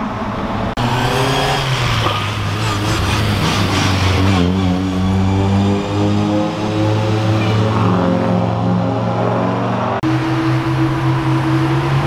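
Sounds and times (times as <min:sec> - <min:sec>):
rally car engines in tunnel: 0:00.0 - 0:12.0.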